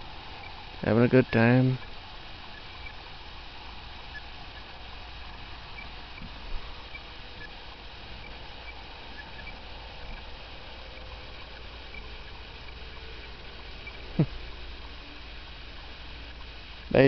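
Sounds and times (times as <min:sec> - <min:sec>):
faint night-time hiss: 0:00.0 - 0:17.0.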